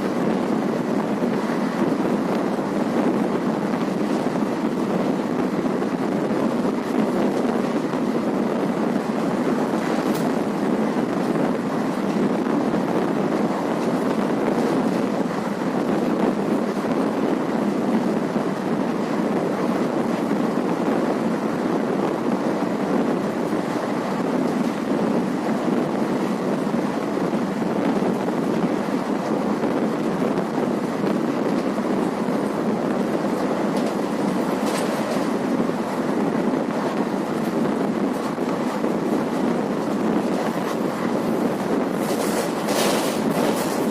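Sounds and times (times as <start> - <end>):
rush of wind: 0.0 - 43.9
train wheels rumbling on track: 0.0 - 43.9.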